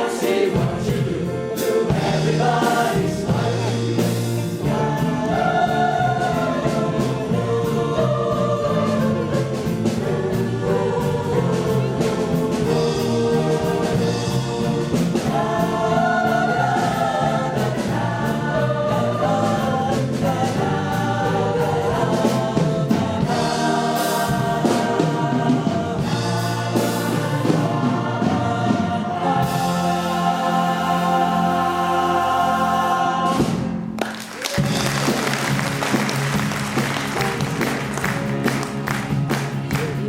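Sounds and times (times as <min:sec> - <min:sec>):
choir singing in harmony: 0:00.0 - 0:34.0.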